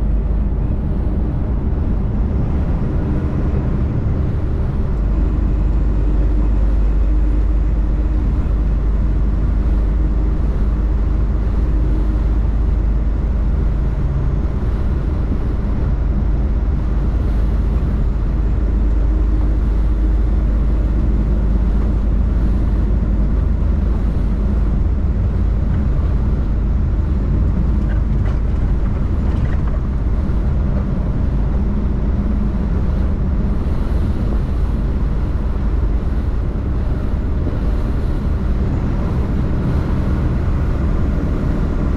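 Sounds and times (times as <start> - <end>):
truck engine and tyres droning: 0.0 - 41.9.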